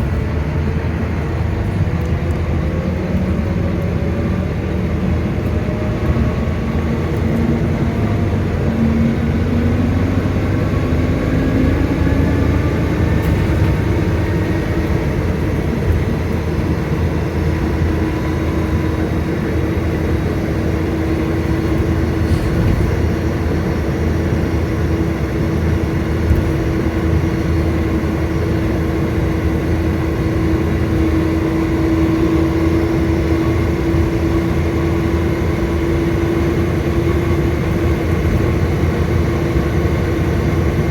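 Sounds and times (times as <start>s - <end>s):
bus engine rumbling: 0.0s - 40.9s
rising engine whine: 0.0s - 40.9s.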